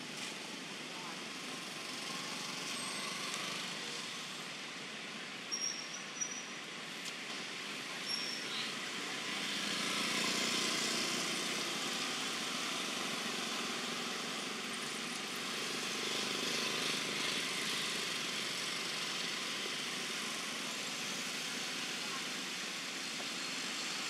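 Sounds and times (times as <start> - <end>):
distant traffic hiss: 0.0 - 24.0.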